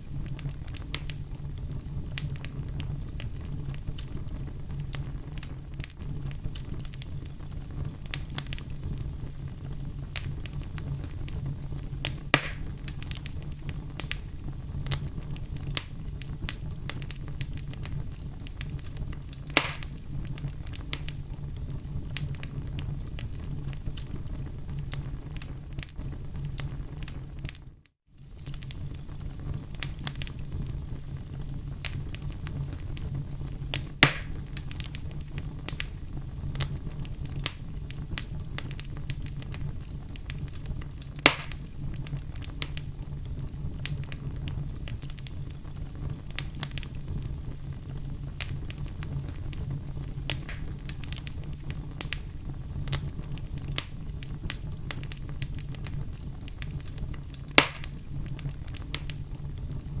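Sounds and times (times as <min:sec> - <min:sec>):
loud fire pops: 0:00.0 - 1:00.0
wood fire crackling: 0:00.0 - 1:00.0.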